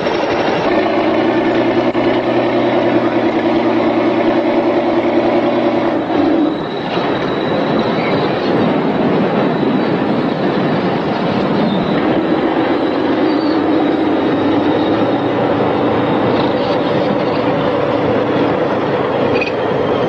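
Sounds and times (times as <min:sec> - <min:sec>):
diesel engine under load: 0:00.0 - 0:20.0
steel tracks clanking: 0:00.0 - 0:20.0.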